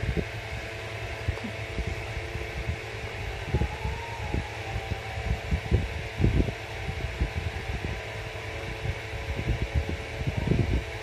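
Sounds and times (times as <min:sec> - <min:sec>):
mechanical whir and hiss: 0:00.0 - 0:11.0.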